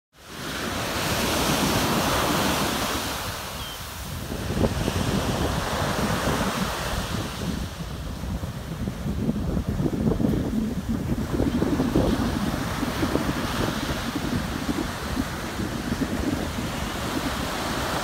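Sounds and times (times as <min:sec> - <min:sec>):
ocean surf on beach: 0:00.2 - 0:18.0
wind buffeting microphone: 0:00.3 - 0:18.0.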